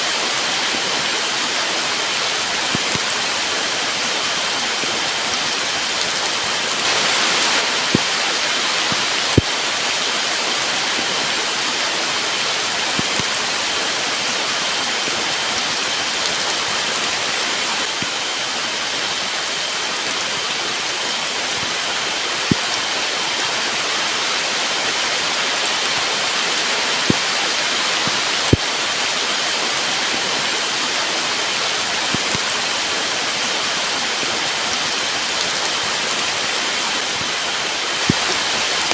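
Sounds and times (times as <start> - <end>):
heavy rain falling: 0.0 - 38.9
big raindrops knocking: 0.2 - 38.9.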